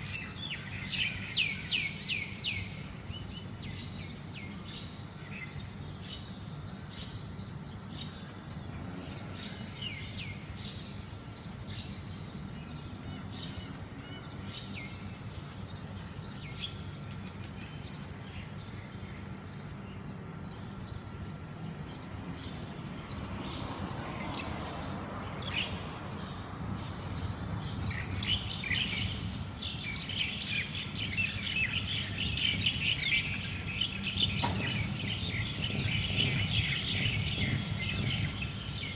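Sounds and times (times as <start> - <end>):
birds calling and chattering: 0.0 - 38.9.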